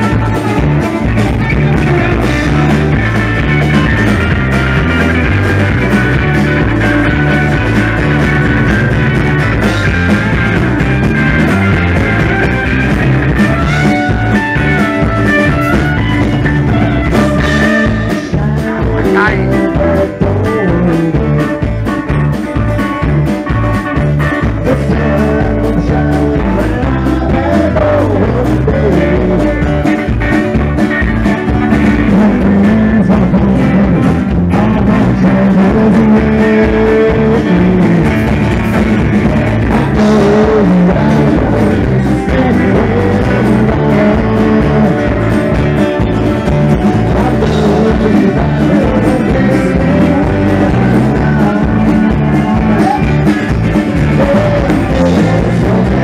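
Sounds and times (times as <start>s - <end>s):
guitars: 0.0s - 56.0s
steady drum beat: 0.0s - 56.0s.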